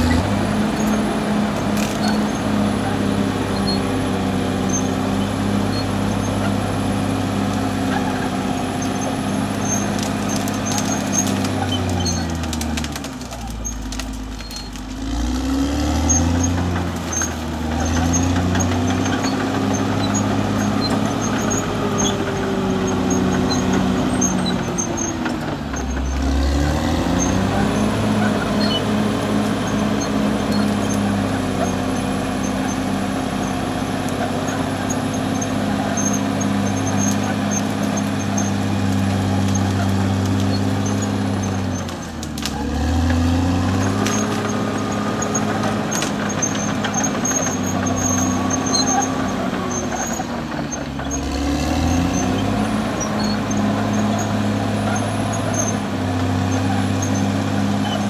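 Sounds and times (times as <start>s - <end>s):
bulldozer diesel engine running hard: 0.0s - 58.0s.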